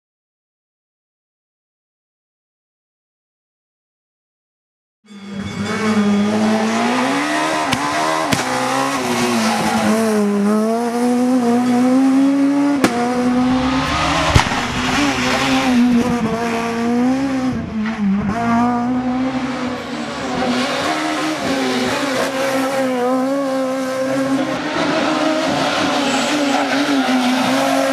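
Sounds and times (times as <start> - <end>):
rally car engine revving: 5.3 - 27.9.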